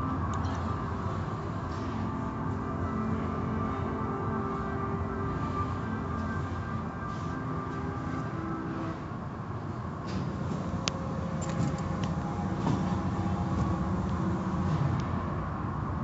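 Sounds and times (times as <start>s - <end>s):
car wash machinery rumble: 0.0s - 16.0s.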